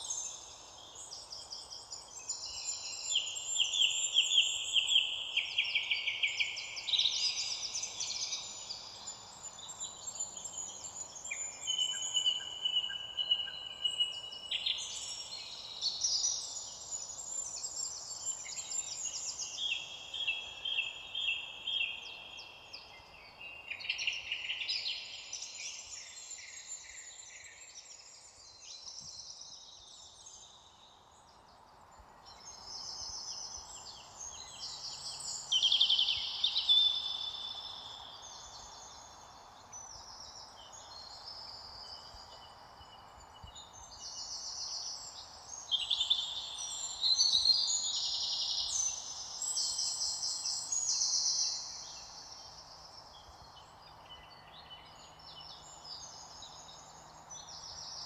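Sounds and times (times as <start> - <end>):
faint steady hiss: 0.0 - 58.0
songbirds singing: 0.0 - 58.0.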